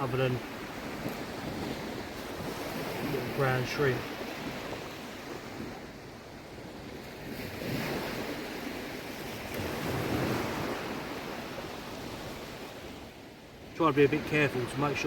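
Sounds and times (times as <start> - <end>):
wind buffeting microphone: 0.0 - 13.1
small waves washing ashore: 0.0 - 15.0.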